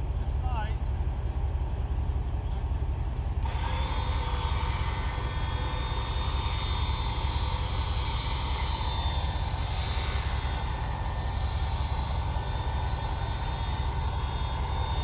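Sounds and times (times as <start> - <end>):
car engine idling: 0.0 - 15.0
electric winch motor whining: 0.0 - 15.0.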